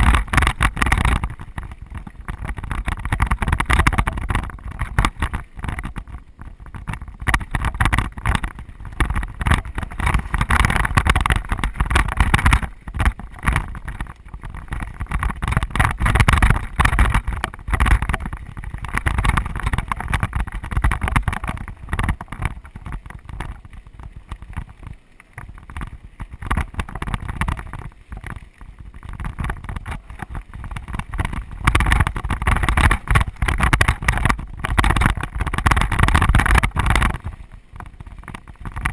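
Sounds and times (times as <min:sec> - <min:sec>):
bike rattling over stones: 0:00.0 - 0:38.9
wind buffeting microphone: 0:00.0 - 0:38.9.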